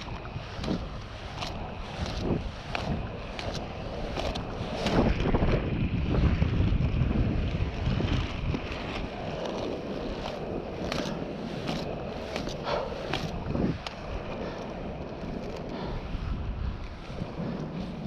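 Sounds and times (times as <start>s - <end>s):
in-line skate wheels rolling: 0.0s - 18.0s
skate wheel clicks: 0.0s - 18.0s
wind buffeting microphone: 0.0s - 18.0s.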